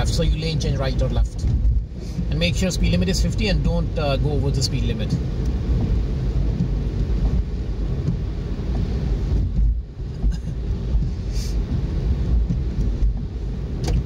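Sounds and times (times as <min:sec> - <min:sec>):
engine and tyre rumble: 0:00.0 - 0:14.0
wind buffeting on microphone: 0:00.0 - 0:14.0.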